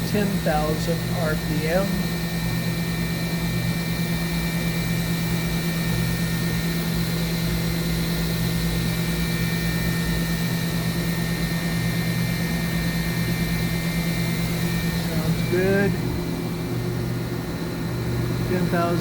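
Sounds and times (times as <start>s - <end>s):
machine hum: 0.0s - 19.0s
machine spindle whine: 0.0s - 19.0s.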